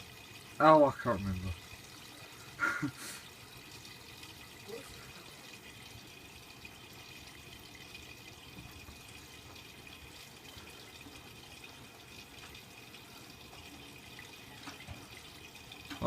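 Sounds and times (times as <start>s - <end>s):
water running into washing machine: 0.0s - 16.0s.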